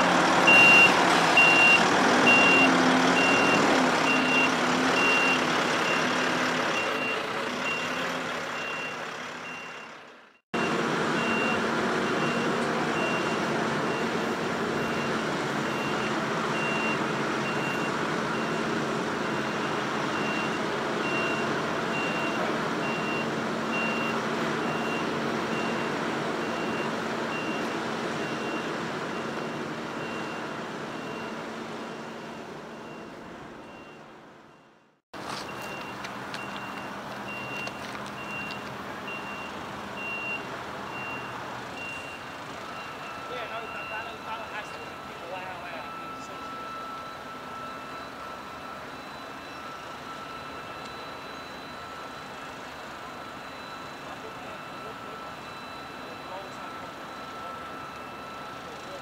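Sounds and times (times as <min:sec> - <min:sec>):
diesel truck engine running: 0:00.0 - 0:59.0
reversing alarm beeping: 0:00.4 - 0:59.0.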